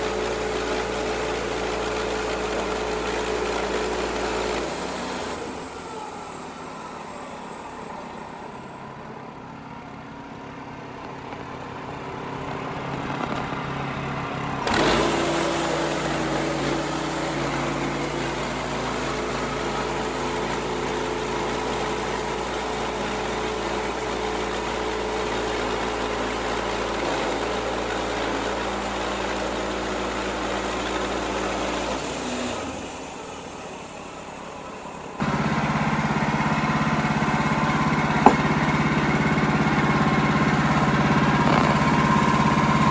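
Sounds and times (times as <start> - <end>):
bandsaw sawing a log: 0.0 - 7.8, 12.7 - 33.6, 35.2 - 42.9
sawmill gas engine running: 0.0 - 42.9.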